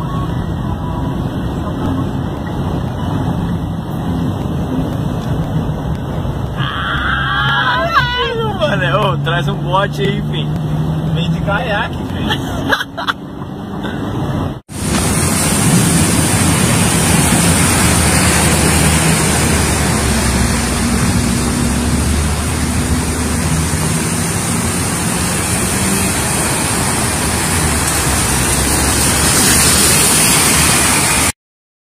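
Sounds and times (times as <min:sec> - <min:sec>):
low engine hum: 0:00.0 - 0:30.9
rain and rushing water: 0:00.0 - 0:31.4.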